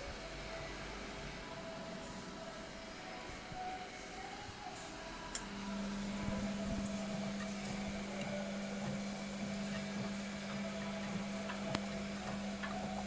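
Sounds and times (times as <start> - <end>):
low whirr: 0.0 - 13.0
washing machine hum: 0.0 - 13.0.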